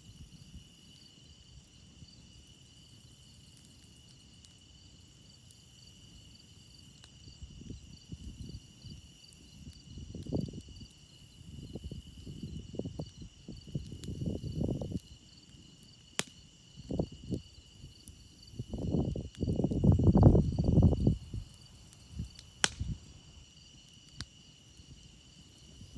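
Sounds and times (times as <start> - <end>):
crickets chirping: 0.0 - 25.9
campfire pop: 2.4 - 25.9.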